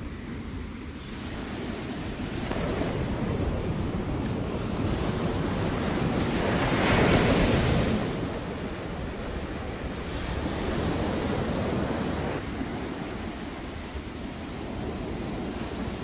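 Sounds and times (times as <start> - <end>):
wind buffeting microphone: 0.0 - 16.0
surf washing onto beach: 0.1 - 16.0.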